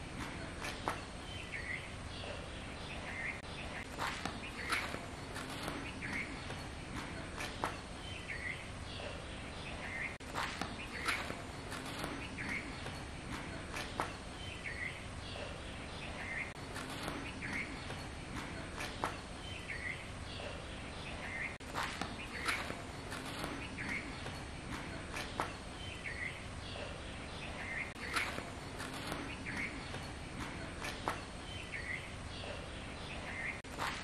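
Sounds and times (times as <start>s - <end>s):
bird chirping: 0.0s - 34.0s.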